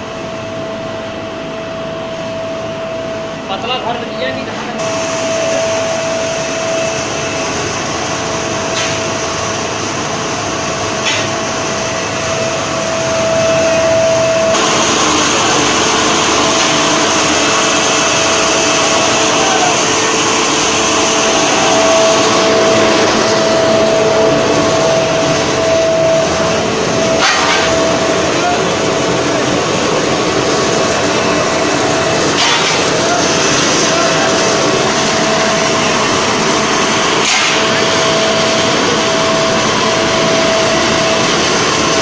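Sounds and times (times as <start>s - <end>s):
air blower rushing: 0.0s - 42.0s
high whine: 0.0s - 42.0s.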